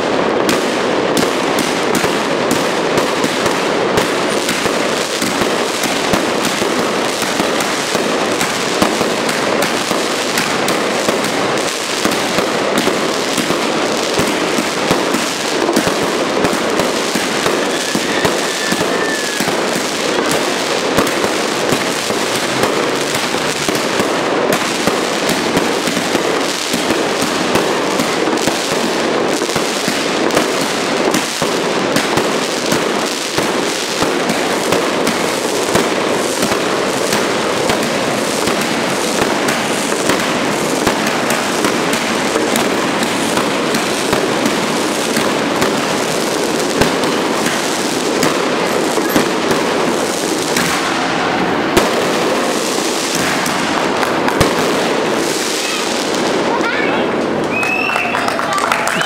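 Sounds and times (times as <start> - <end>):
fireworks popping and crackling: 0.0 - 59.0.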